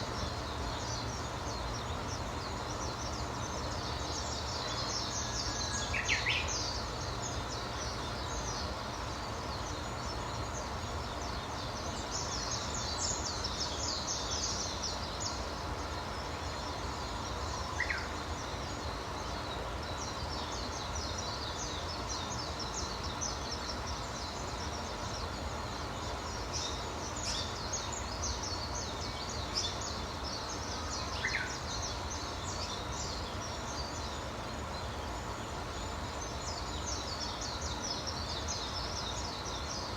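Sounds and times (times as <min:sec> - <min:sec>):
low background noise: 0:00.0 - 0:39.9
small birds twittering: 0:00.0 - 0:39.9.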